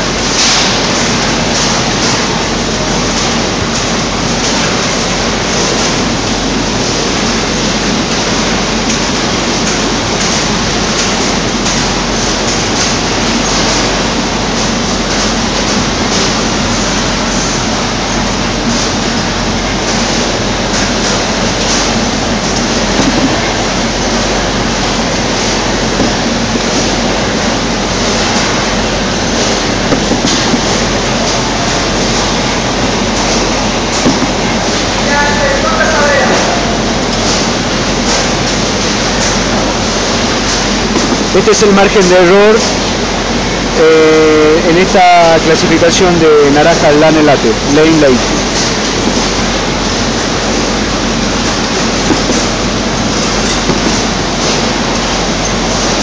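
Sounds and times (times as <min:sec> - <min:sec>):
conveyor machinery running: 0:00.0 - 0:56.0.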